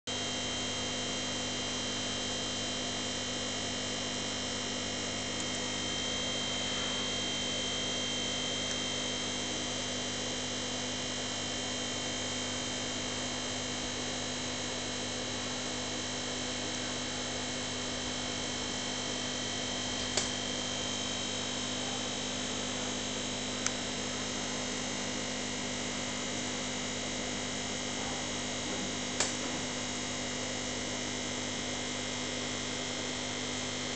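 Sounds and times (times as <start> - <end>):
aquarium air pump humming: 0.1 - 33.9.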